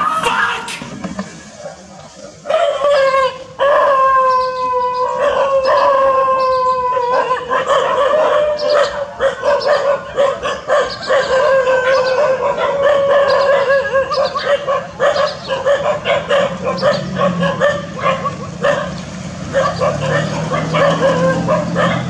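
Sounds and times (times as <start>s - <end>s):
dog howling: 2.4s - 22.0s
dog yelping: 2.5s - 22.0s.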